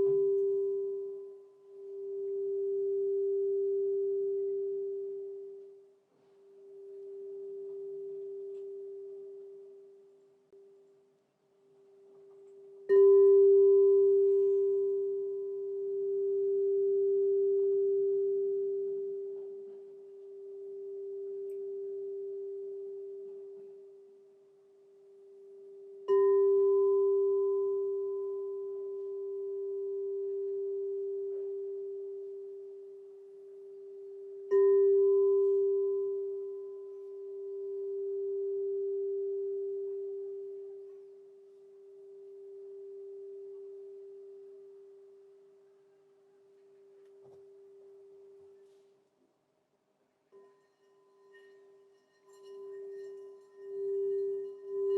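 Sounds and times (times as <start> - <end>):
singing bowl ringing: 0.0 - 5.9, 6.6 - 10.1, 12.2 - 45.6, 50.3 - 54.9.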